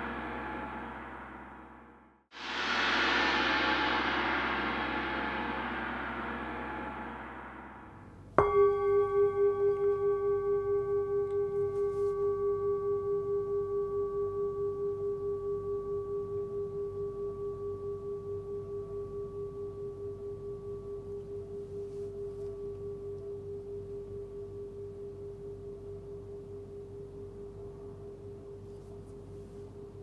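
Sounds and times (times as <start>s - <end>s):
singing bowl ringing: 3.0s - 29.1s.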